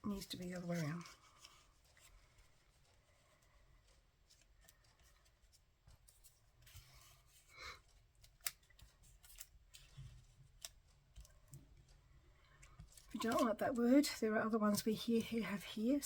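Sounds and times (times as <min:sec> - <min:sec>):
paper rustling: 0:00.1 - 0:16.0
paper and cardstock clicks: 0:00.3 - 0:16.0.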